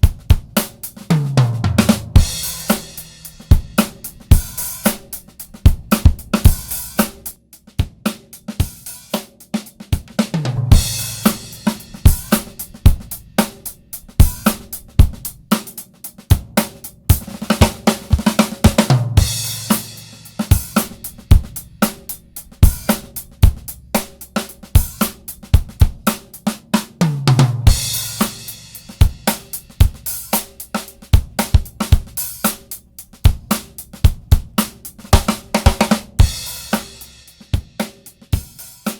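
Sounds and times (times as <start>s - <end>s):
drum kit playing a groove: 0.0s - 38.9s.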